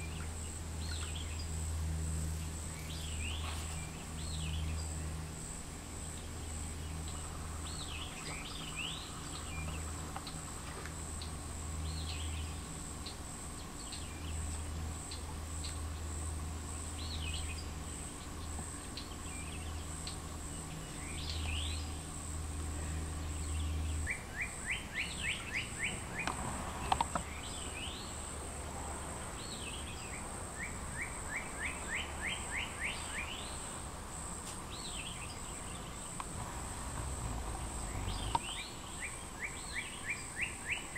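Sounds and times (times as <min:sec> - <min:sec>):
low hum: 0:00.0 - 0:31.1, 0:32.0 - 0:39.7
songbirds calling: 0:00.0 - 0:40.9
steady high-pitched buzz: 0:00.0 - 0:40.9.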